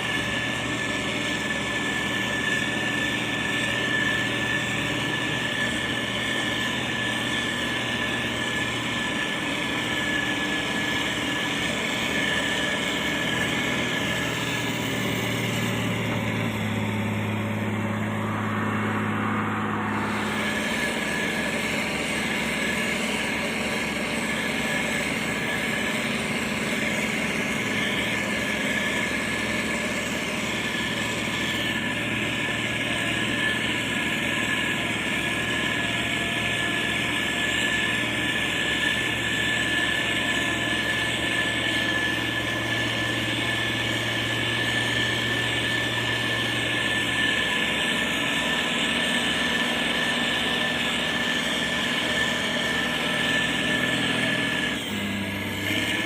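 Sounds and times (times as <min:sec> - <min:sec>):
constant high whine: 0:00.0 - 0:56.0
construction machinery engines: 0:00.0 - 0:56.0
deep engine hum: 0:00.0 - 0:56.0.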